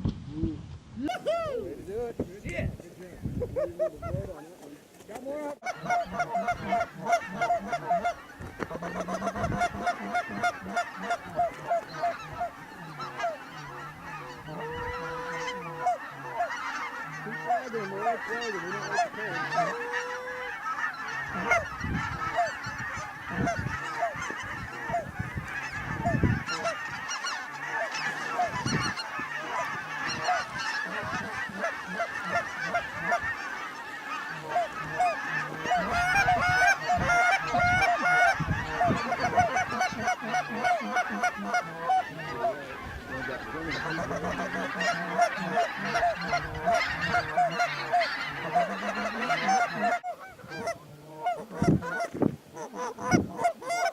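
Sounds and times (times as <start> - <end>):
geese honking: 1.0 - 53.9.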